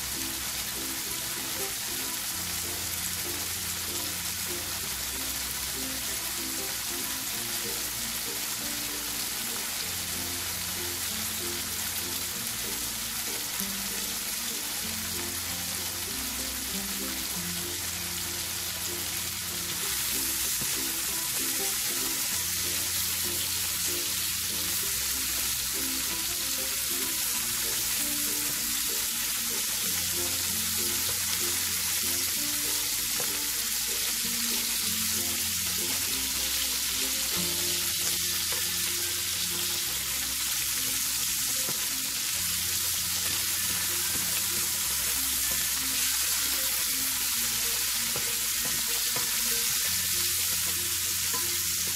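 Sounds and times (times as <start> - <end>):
background music: 0.0 - 51.9
food sizzling in oil: 0.0 - 51.9.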